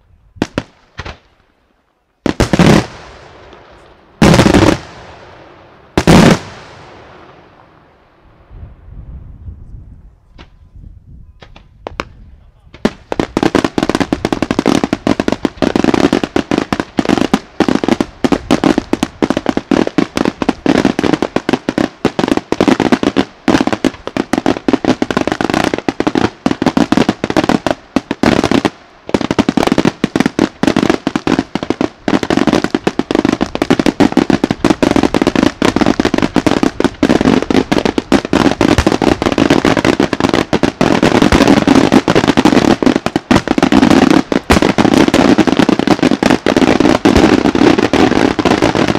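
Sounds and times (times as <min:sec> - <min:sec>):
fireworks bangs and crackle: 0:00.0 - 0:01.6, 0:02.2 - 0:10.8, 0:11.4 - 0:48.9.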